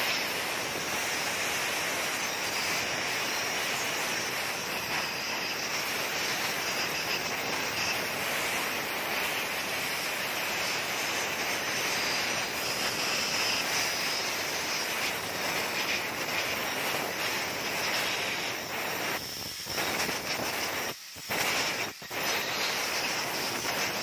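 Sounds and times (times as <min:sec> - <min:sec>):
compressed air hissing: 0:00.0 - 0:24.0.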